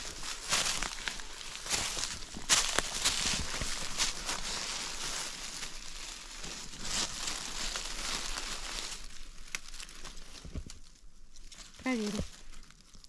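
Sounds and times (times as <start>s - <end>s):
undergrowth rustling and crackling: 0.0s - 13.0s
twigs snapping: 0.1s - 13.0s.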